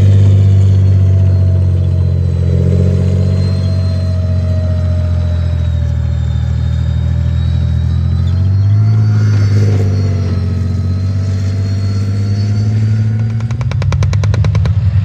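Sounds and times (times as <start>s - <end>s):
tank diesel engine droning: 0.0s - 15.0s.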